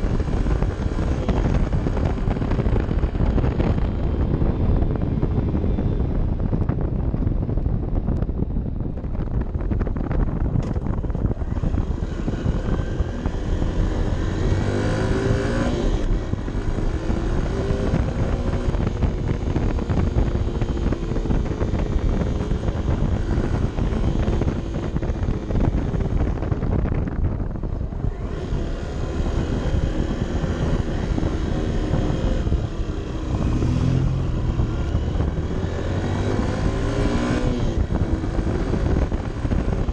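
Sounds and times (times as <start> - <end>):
motorcycle engine revving uphill: 0.0 - 39.9
wind rumble on microphone: 0.0 - 39.9.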